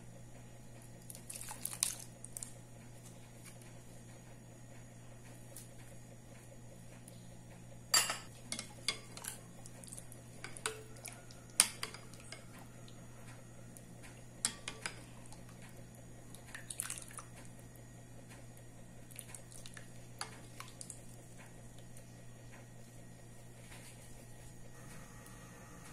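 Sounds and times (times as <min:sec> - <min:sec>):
faint low hum: 0:00.0 - 0:25.9.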